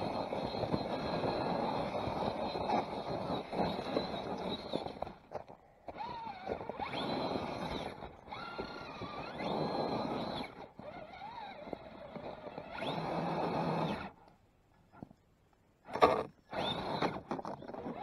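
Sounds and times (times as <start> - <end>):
electric motor whining: 0.0 - 14.2, 15.9 - 18.0
tyres churning through snow: 0.0 - 14.2, 16.0 - 18.0.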